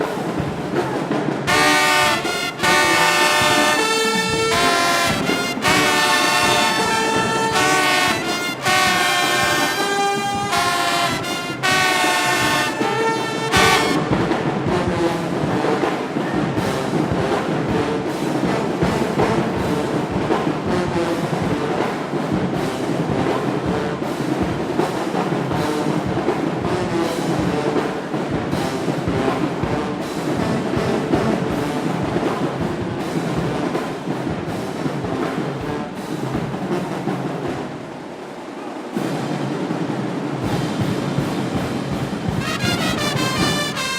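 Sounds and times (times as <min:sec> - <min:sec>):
marching band brass chords: 0:00.0 - 0:43.9.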